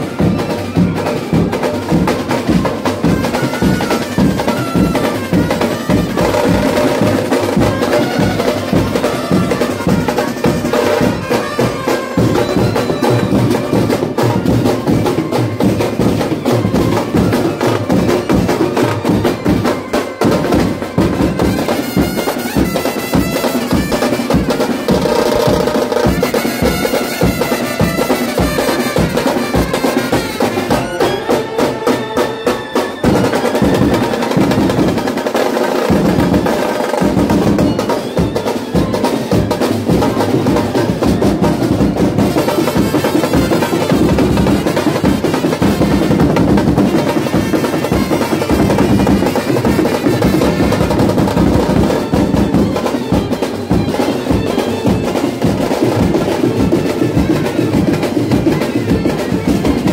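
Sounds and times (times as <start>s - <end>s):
rapid driving drumming: 0.0s - 59.9s
wind instrument melody: 0.0s - 59.9s.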